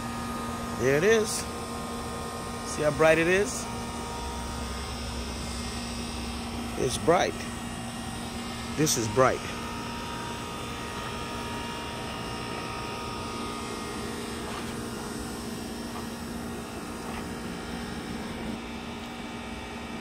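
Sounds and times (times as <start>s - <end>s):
air conditioner unit humming: 0.0s - 20.0s.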